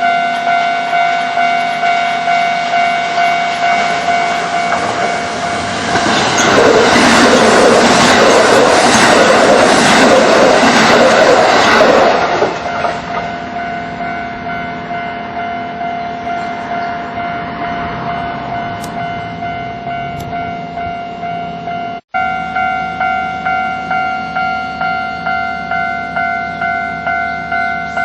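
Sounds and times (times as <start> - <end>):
electric train rumbling past: 0.0 - 28.0
electronic crossing warning bell: 0.0 - 28.0.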